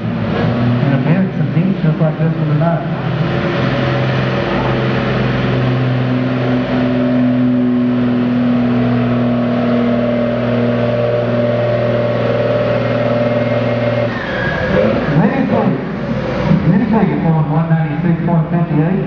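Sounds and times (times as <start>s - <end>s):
truck engine at high revs: 0.0s - 19.0s.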